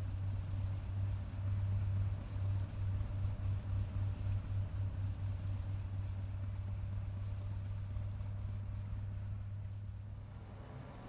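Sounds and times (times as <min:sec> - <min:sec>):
rotary snowplough drone: 0:00.0 - 0:11.0.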